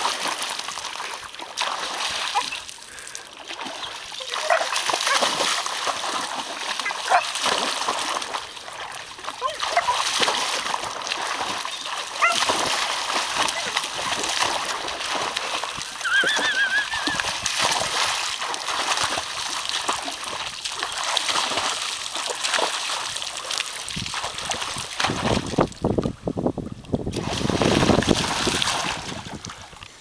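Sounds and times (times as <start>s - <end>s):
water splashing: 0.0s - 26.2s, 26.8s - 30.0s.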